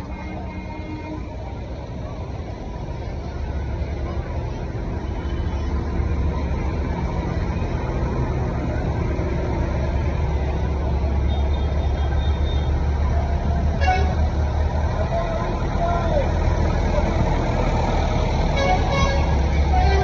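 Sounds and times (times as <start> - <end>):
tractor diesel engines rumbling: 0.0 - 20.0.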